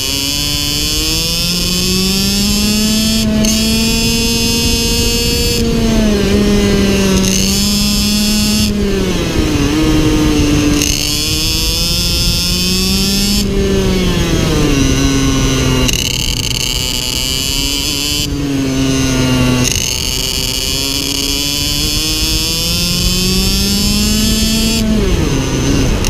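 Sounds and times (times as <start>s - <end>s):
kart engine buzzing at high revs: 0.0s - 26.0s.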